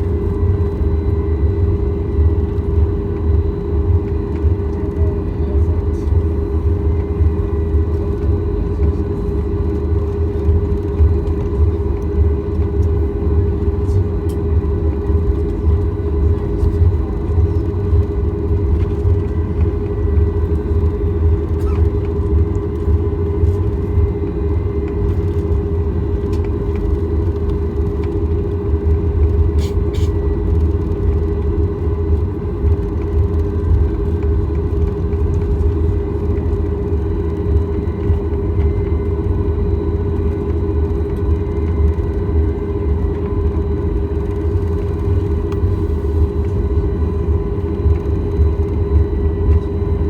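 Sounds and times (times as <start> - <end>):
aircraft cabin rumble and hum: 0.0 - 50.0.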